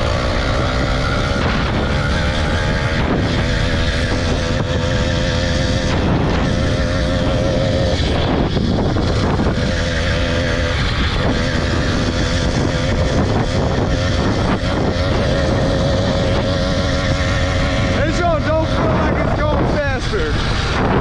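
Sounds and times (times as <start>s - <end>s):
small motorbike engine droning: 0.0s - 21.0s
wind noise on microphone: 0.0s - 21.0s.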